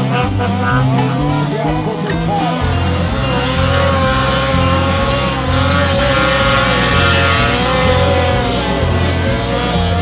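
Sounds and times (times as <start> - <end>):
music with repeating bass line: 0.0 - 10.0
snowmobile engines revving: 0.0 - 10.0.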